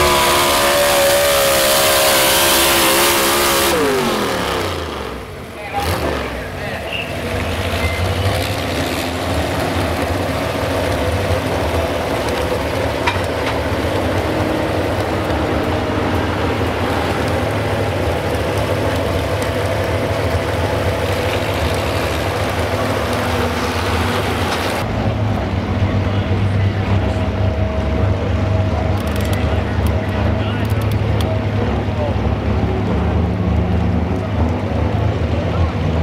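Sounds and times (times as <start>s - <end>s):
truck engine running hard: 0.0s - 36.0s.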